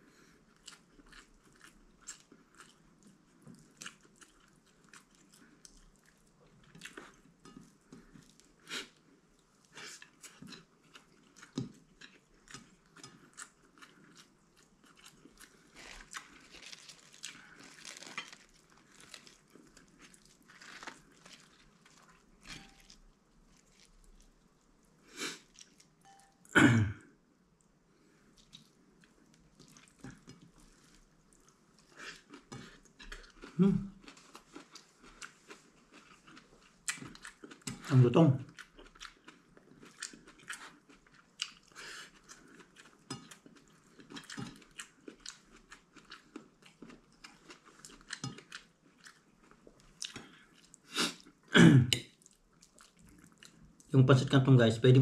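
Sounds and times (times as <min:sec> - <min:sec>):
person chewing crunchy food: 0:00.4 - 0:26.4, 0:28.4 - 0:37.9, 0:38.5 - 0:53.9.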